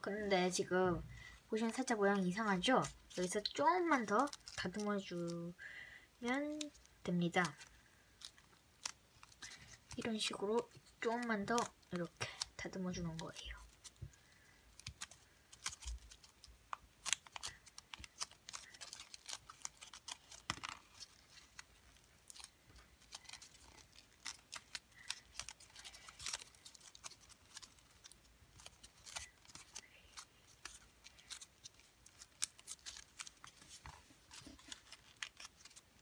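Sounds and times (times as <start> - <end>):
paper crinkling: 1.2 - 36.0.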